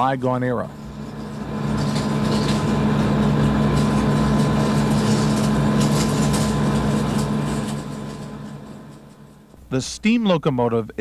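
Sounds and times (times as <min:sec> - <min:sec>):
lathe motor hum and whine: 0:00.0 - 0:10.2.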